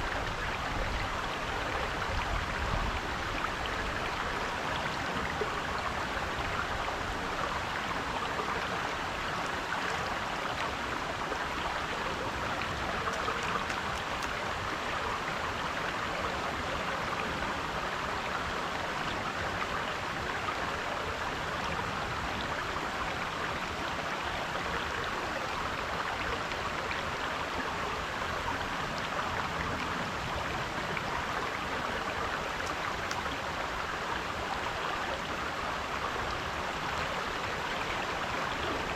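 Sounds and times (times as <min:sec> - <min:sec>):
creek water babbling over rocks: 0:00.0 - 0:38.9.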